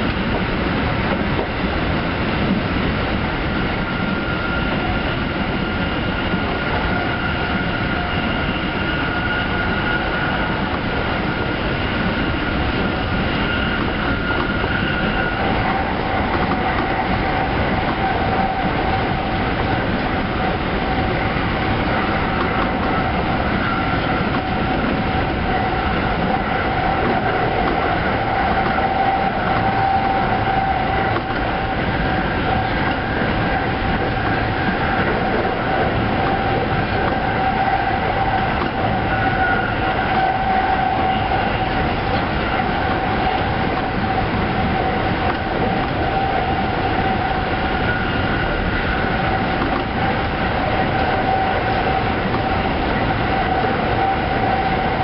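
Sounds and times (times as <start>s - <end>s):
electric train whine: 0.0s - 55.0s
train rolling rumble: 0.0s - 55.0s.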